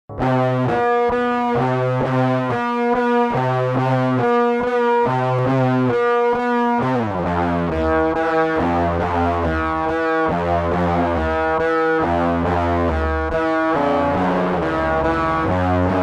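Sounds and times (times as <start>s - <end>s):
instrumental music sustained notes: 0.2s - 16.0s.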